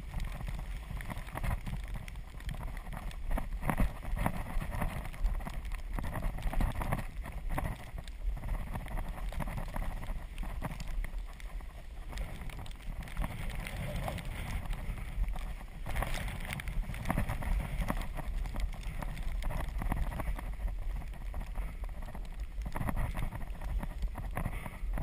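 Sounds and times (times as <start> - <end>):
low microphone rumble: 0.0 - 25.0.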